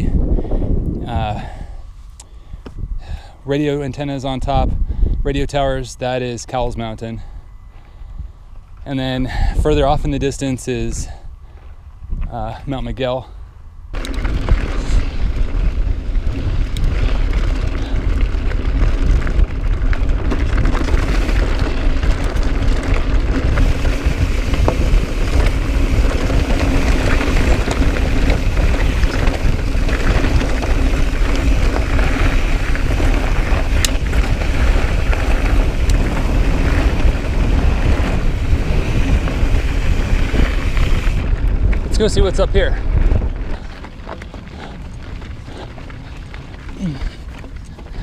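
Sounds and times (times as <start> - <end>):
bike rattles and clicks: 0.0 - 48.0
wind buffeting microphone: 0.0 - 48.0.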